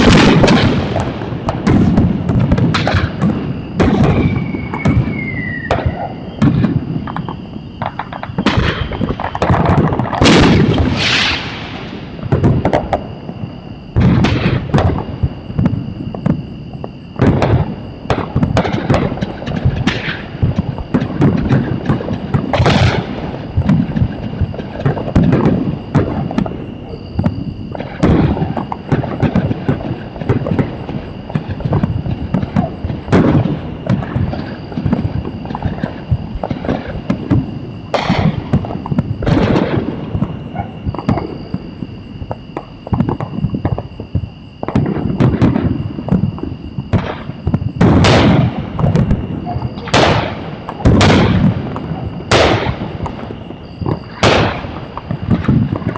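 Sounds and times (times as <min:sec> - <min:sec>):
sharp loud firework bangs: 0:00.0 - 0:41.8, 0:42.4 - 0:55.9
faint steady high whine: 0:00.0 - 0:55.9
fireworks rumble and crackle: 0:00.0 - 0:55.9.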